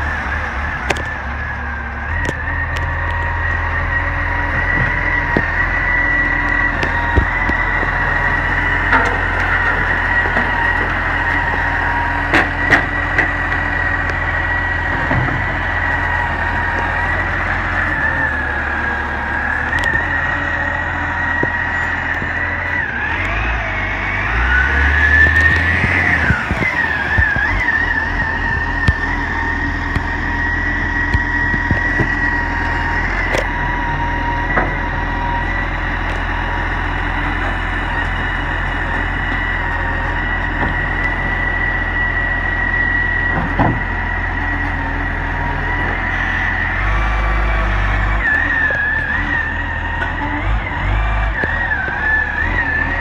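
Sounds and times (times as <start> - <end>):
garbage truck engine: 0.0 - 53.0
hydraulic whine: 0.0 - 53.0.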